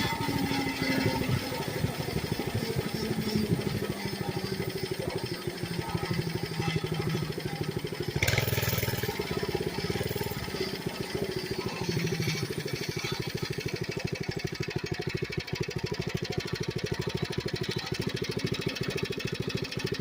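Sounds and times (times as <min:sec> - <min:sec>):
small engine puttering: 0:00.0 - 0:20.0.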